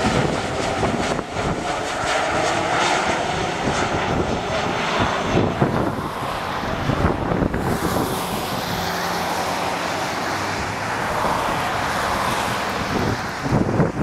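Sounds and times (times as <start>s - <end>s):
airliner jet noise: 0.0s - 14.0s
wind buffeting microphone: 0.0s - 14.0s.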